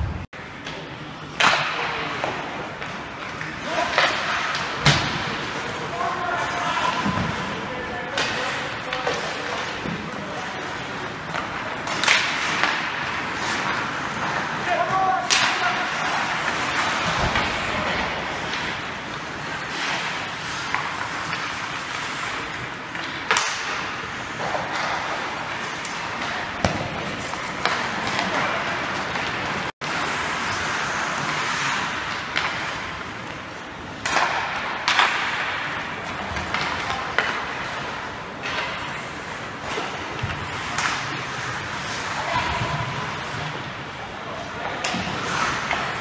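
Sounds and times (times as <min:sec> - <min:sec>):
pucks hitting the boards: 0:00.0 - 0:46.0
sticks striking pucks: 0:00.3 - 0:46.0
skate blades scraping ice: 0:01.5 - 0:46.0.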